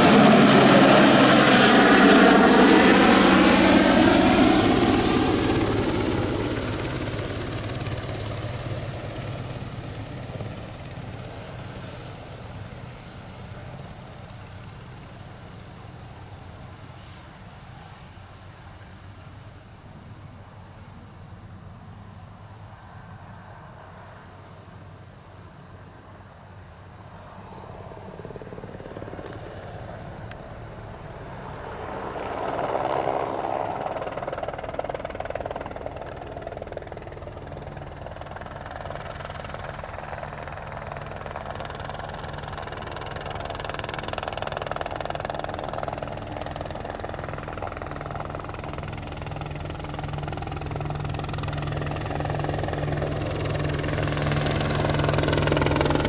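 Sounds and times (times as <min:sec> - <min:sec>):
helicopter rotor and engine hum: 0:00.0 - 0:56.0.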